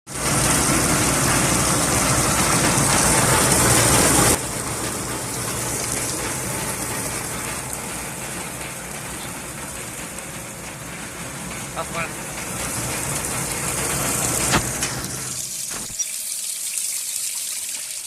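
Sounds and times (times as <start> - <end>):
motor hum: 0.1 - 16.0
water gushing and spraying: 0.1 - 18.0.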